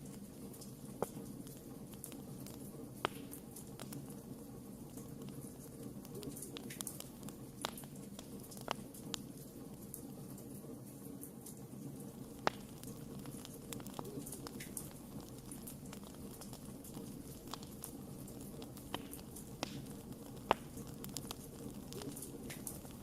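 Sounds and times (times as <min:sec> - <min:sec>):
campfire crackling: 0:00.0 - 0:23.0
low steady rush: 0:00.0 - 0:23.0.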